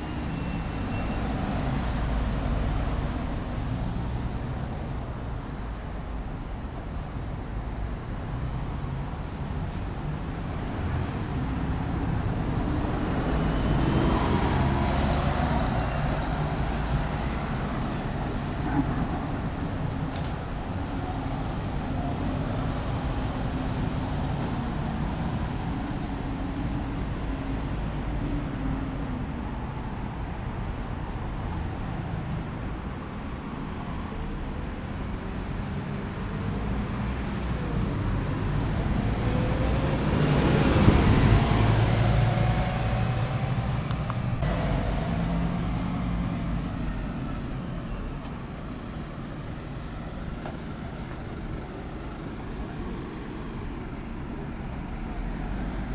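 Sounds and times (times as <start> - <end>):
bus engine running: 0.0 - 55.9
bus passing by: 0.0 - 55.9
street traffic: 0.0 - 55.9.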